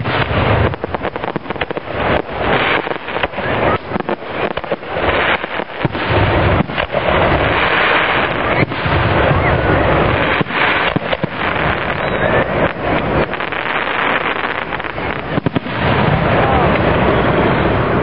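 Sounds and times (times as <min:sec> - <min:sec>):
fireworks bursting: 0:00.0 - 0:18.0
fireworks crackle: 0:00.0 - 0:18.0.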